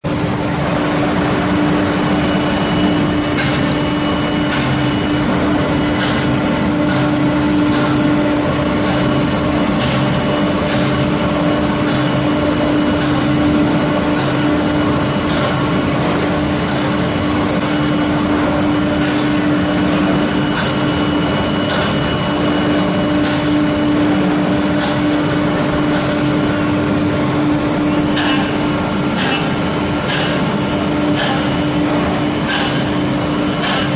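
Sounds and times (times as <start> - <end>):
router machine humming and whining: 0.1 - 33.9.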